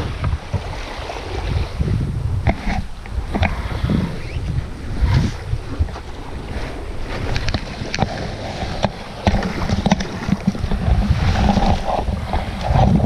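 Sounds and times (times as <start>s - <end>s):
paddle splashing water: 0.0s - 13.0s
wind rumble on microphone: 0.0s - 13.0s.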